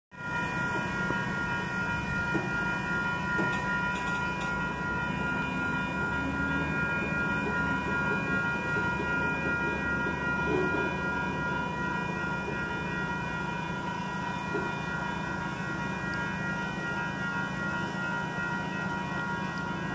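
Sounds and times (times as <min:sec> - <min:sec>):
crossing warning bell ringing: 0:00.1 - 0:19.9
freight train wheels rumbling on rail: 0:00.1 - 0:19.9
wheels clicking over rail joints: 0:00.3 - 0:19.9.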